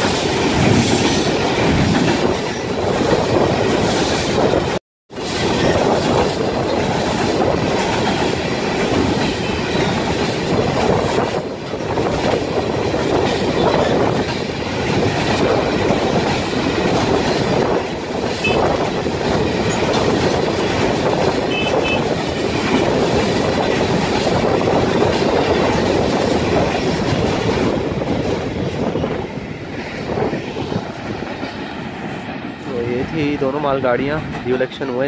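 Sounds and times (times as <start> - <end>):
freight train rumble: 0.0 - 35.0.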